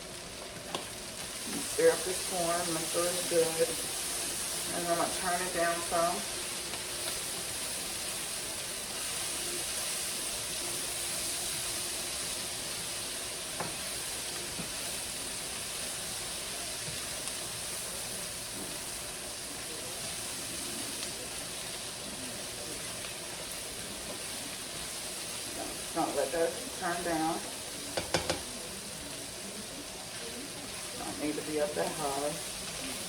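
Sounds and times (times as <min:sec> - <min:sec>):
hot oil sizzling in a pan: 0:00.0 - 0:33.0.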